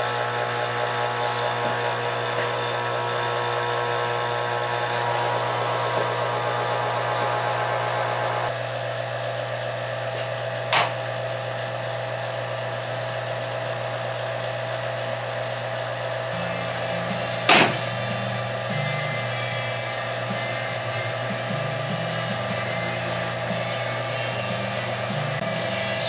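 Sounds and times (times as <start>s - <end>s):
vacuum motor humming and whining: 0.0s - 26.0s.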